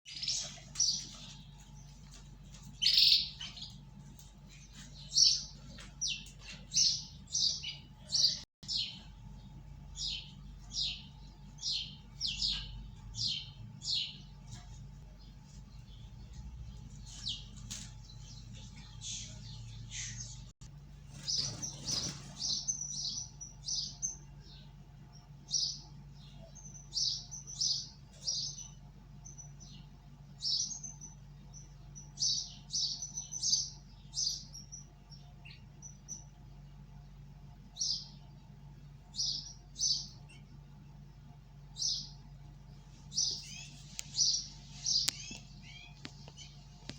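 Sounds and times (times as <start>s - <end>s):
faint low hum: 0.1s - 46.9s
small birds chirping: 0.1s - 46.9s.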